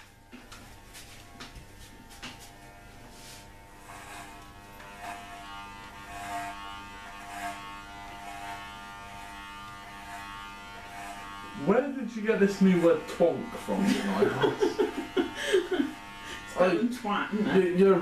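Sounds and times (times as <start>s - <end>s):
hair clippers buzzing: 0.0s - 18.0s.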